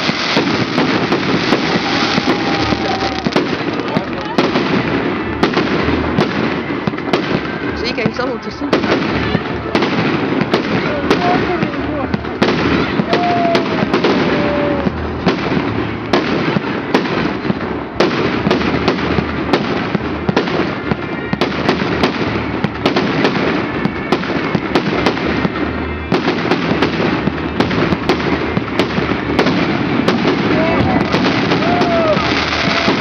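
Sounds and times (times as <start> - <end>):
fireworks banging and crackling: 0.0 - 33.0.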